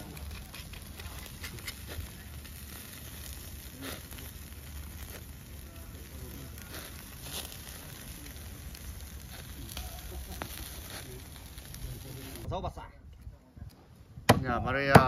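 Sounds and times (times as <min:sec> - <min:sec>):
chicken sizzling on a grill: 0:00.0 - 0:12.5
wood fire crackling: 0:00.0 - 0:15.0.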